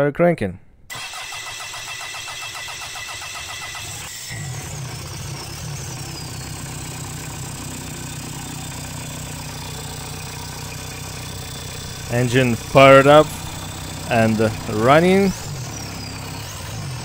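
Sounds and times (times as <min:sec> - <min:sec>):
diesel engine cranking and idling: 0:00.9 - 0:17.0
falling whine: 0:03.0 - 0:17.0.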